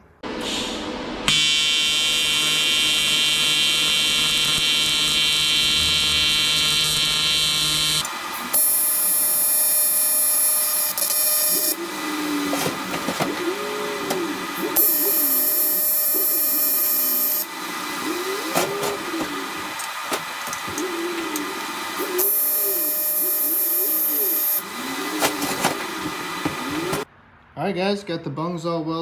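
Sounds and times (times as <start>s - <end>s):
welder arc buzzing: 0.4s - 27.1s.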